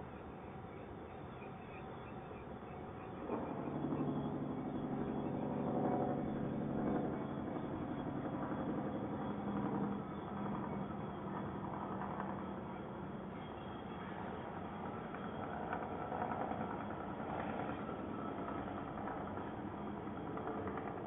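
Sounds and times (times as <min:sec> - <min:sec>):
diesel engines droning: 0:02.9 - 0:21.0.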